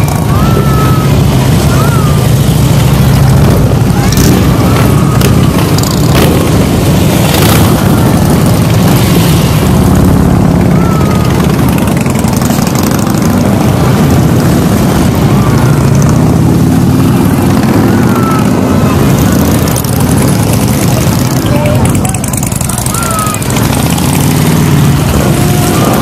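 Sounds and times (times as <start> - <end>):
motorcycle engines rumbling: 0.0 - 26.0.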